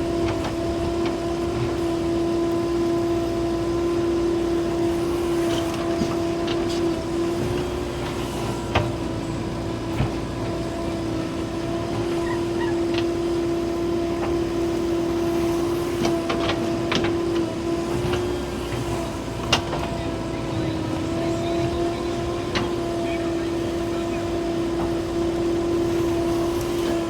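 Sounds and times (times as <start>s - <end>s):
backhoe loader engine whine: 0.0s - 27.0s.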